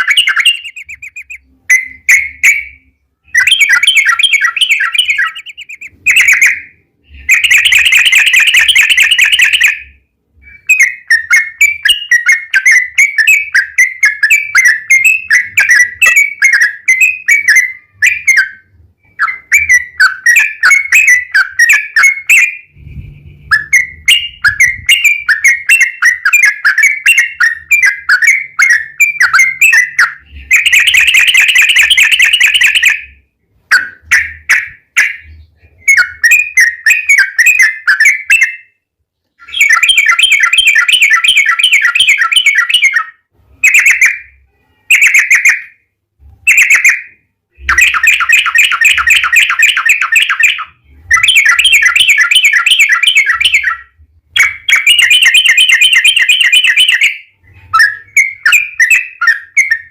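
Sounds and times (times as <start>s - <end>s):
bird singing with rolling trills: 0.0s - 59.9s.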